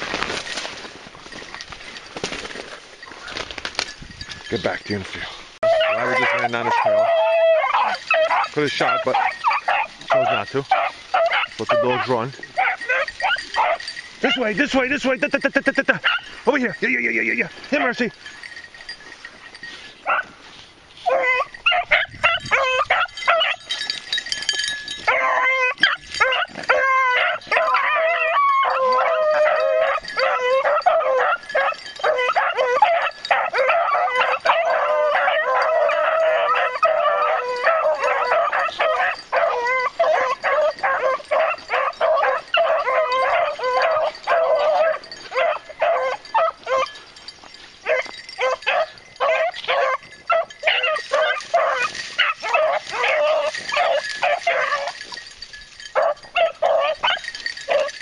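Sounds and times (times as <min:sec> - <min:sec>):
hounds baying: 0:04.2 - 0:58.0.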